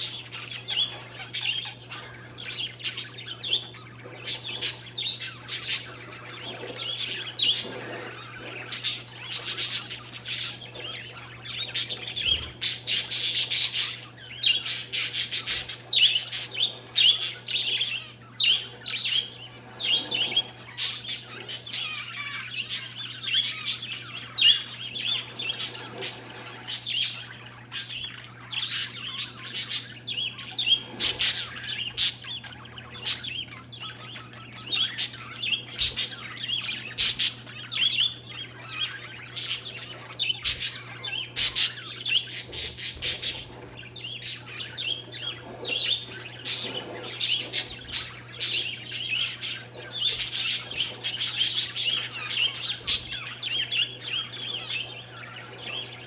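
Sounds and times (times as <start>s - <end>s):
birds chirping and squawking: 0.0s - 56.0s
faint low hum: 0.0s - 56.0s.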